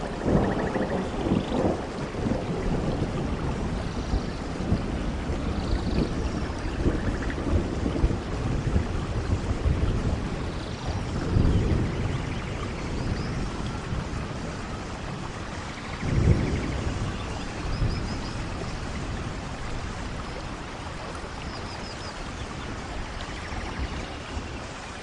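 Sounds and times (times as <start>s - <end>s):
steady rain: 0.0s - 25.0s
thunder rumbles: 0.0s - 25.0s.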